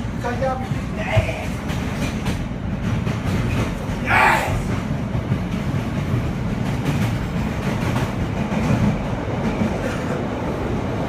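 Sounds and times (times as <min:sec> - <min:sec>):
rail car rumbling on rails: 0:00.0 - 0:11.0.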